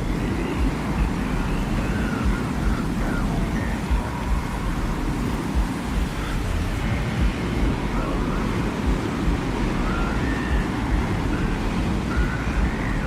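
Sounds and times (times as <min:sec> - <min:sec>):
faint wind whistling: 0:00.0 - 0:13.0
wind rushing rumble: 0:00.0 - 0:13.0.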